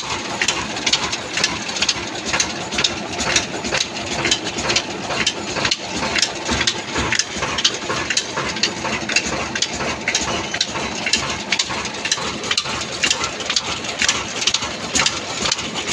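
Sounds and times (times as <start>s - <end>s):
clatter of belts and pulleys: 0.0s - 15.9s
diesel engine rumble: 0.0s - 15.9s.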